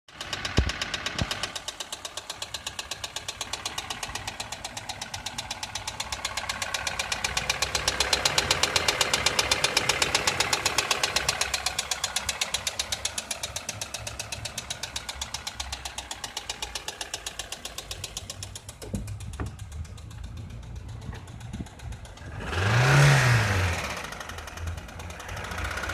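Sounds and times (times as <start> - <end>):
engine running with ticking knock: 0.1 - 25.9.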